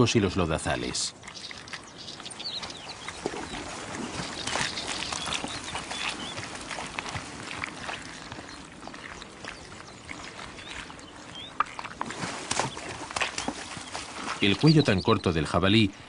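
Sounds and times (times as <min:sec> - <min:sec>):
boars squelching and splashing in mud: 0:00.0 - 0:16.0.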